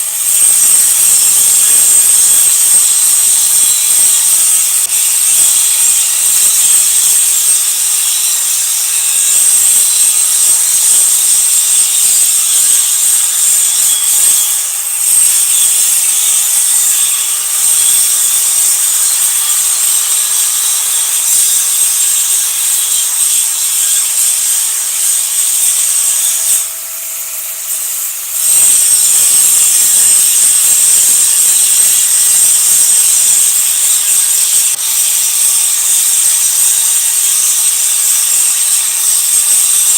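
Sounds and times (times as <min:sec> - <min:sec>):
arc welding sizzling: 0:00.0 - 0:39.9.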